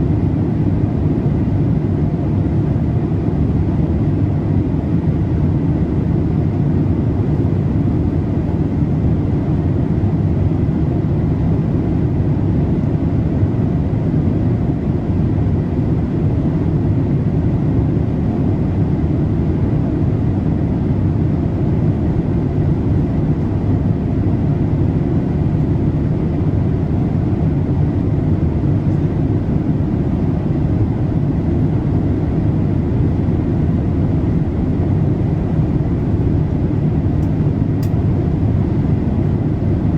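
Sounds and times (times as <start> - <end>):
aircraft cabin airflow and engine noise: 0.0 - 39.9.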